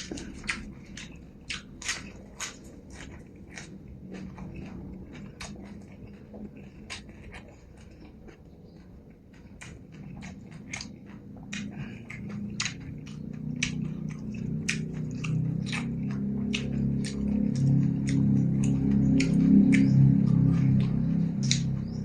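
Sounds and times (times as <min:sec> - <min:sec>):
person chewing with mouth smacks: 0:00.0 - 0:22.0.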